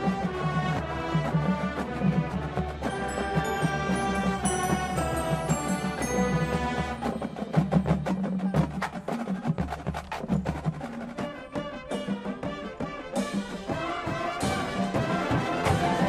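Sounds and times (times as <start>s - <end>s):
dry percussion strokes and drum hits: 0.0s - 16.0s.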